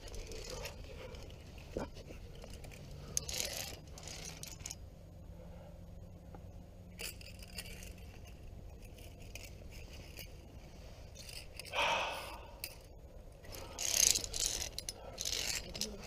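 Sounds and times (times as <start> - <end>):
carabiners clinking on steel cable: 0.0 - 4.9, 6.8 - 16.0.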